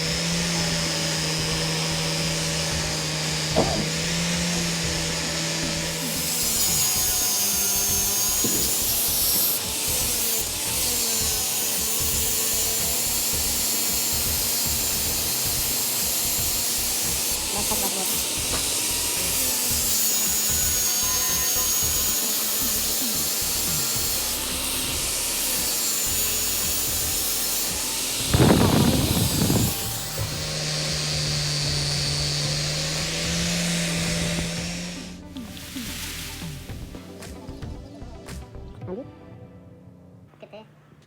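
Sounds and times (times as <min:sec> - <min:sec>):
power tool grinding metal: 0:00.0 - 0:37.8.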